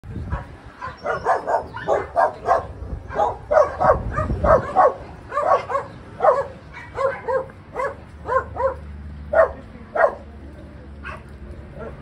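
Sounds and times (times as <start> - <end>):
puppies yipping and barking: 0.2 - 10.3.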